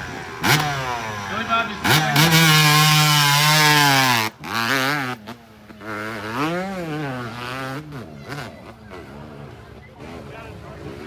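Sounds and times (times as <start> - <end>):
small engine buzzing and revving: 0.0 - 9.4.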